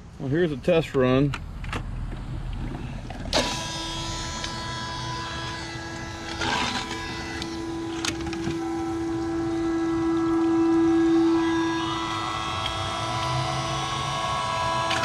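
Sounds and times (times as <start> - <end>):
electric pump motor humming: 2.4 - 15.0.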